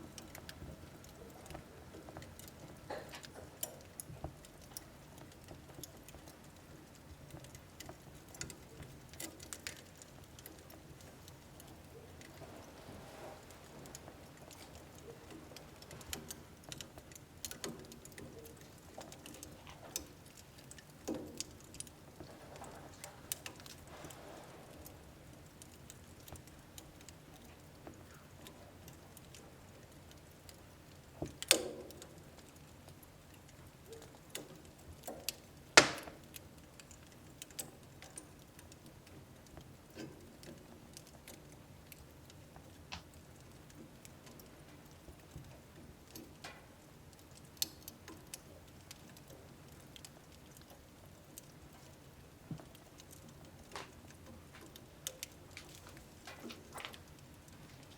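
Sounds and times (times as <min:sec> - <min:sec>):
logs crackling and popping: 0:00.0 - 0:57.9
wood stove fire hissing: 0:00.0 - 0:57.9.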